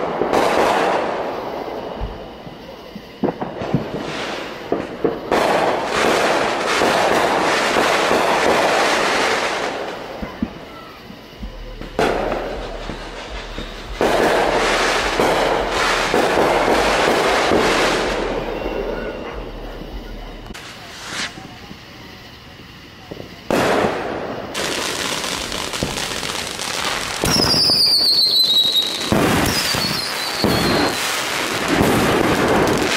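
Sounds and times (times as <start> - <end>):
firework crackling hiss: 0.0 - 32.9
firework pops and bangs: 0.0 - 32.9.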